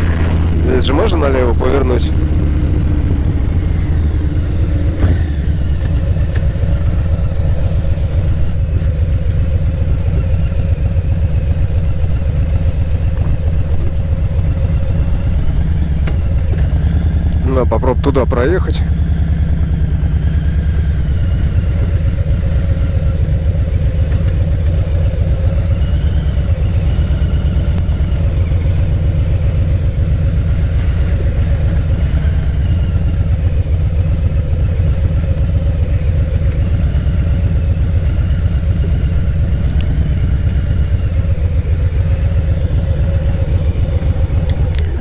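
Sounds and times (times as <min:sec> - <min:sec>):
motorcycle engine running low revs: 0:00.0 - 0:45.0.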